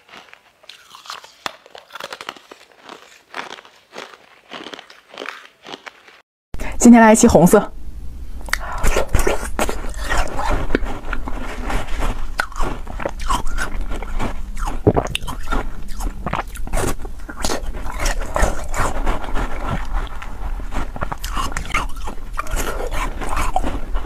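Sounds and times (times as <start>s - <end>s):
chewing crunchy ice pop: 0.0s - 6.2s, 8.5s - 24.0s.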